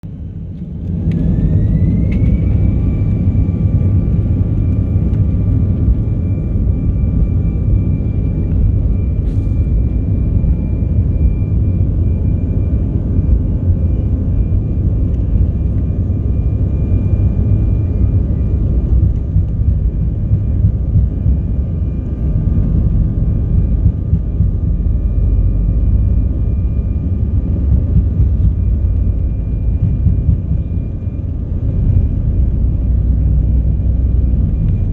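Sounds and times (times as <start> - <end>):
heavy steady rumble: 0.0 - 34.9
jet engine whine: 0.0 - 34.9.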